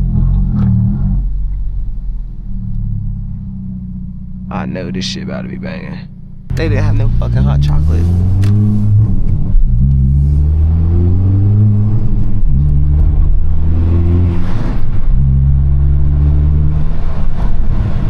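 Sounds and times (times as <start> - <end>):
car engine accelerating hard: 0.0 - 4.4, 6.5 - 18.0.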